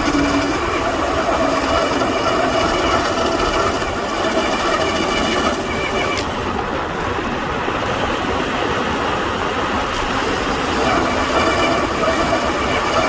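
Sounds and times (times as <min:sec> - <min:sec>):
disc brakes whining: 0:00.0 - 0:08.7, 0:09.6 - 0:13.0
bike tyre noise: 0:00.0 - 0:13.0.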